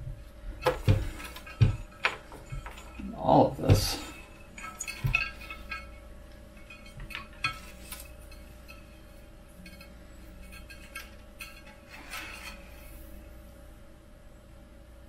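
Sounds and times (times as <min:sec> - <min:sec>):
faint steady hum: 0:00.0 - 0:15.0
wires clinking and rustling: 0:00.5 - 0:13.3.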